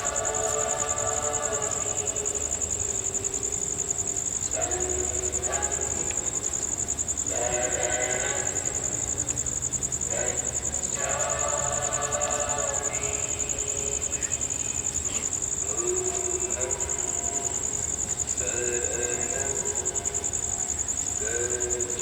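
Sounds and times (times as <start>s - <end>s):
people chanting in unison: 0.0s - 22.0s.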